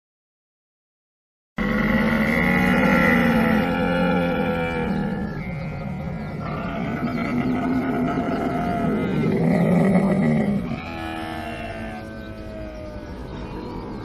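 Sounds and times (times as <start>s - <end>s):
camel groaning: 1.6s - 13.9s.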